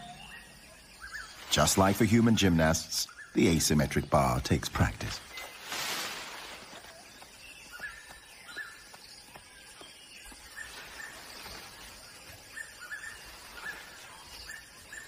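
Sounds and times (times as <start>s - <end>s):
bird chirping: 0.0s - 15.0s
rainforest ambience: 0.0s - 15.0s.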